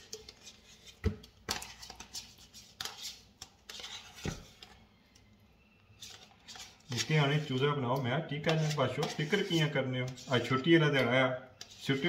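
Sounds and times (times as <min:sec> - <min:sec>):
spoon scraping plastic tub: 0:00.0 - 0:04.8, 0:06.0 - 0:12.0.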